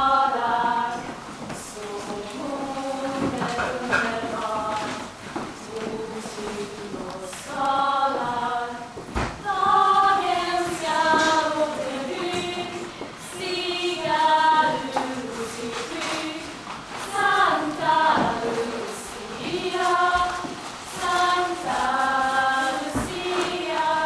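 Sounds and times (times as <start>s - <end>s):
choir of girls singing: 0.0s - 24.0s.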